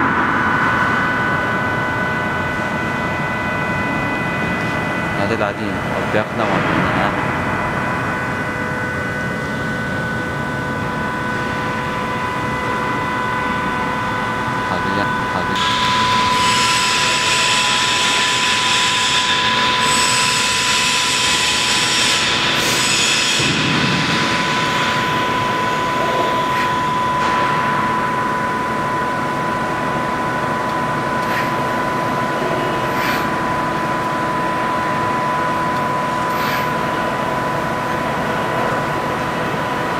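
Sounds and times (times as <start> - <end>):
machine high whine: 0.0 - 39.9.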